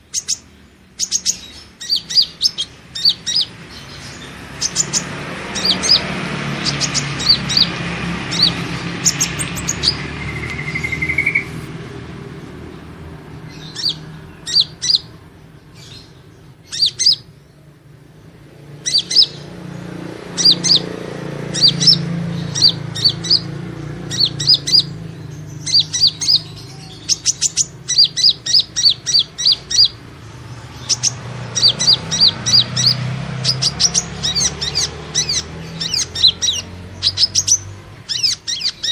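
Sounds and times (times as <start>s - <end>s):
sunbird sharp high chirps: 0.0s - 11.8s, 13.4s - 17.7s, 18.7s - 38.9s.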